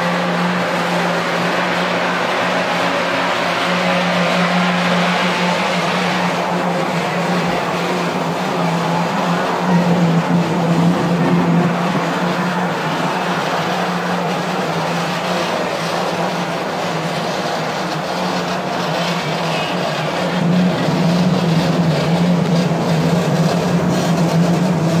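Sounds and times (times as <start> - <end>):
rushing noise: 0.0 - 25.0.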